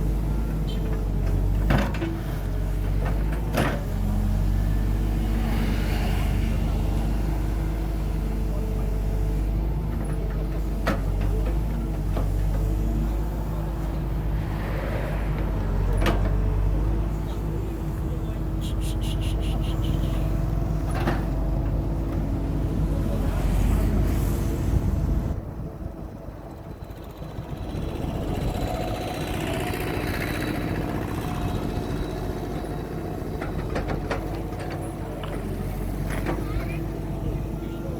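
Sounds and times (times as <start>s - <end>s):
excavator engine running: 0.0s - 37.9s.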